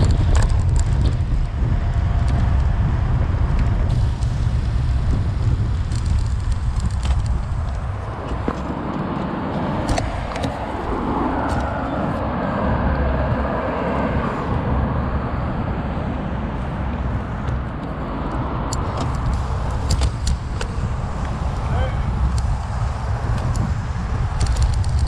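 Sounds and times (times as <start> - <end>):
car passing: 0.0 - 25.0
low traffic rumble: 0.0 - 25.0.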